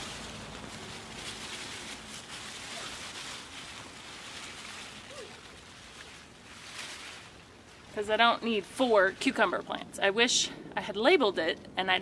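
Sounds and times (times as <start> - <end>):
leaves and vines rustling: 0.0 - 10.0.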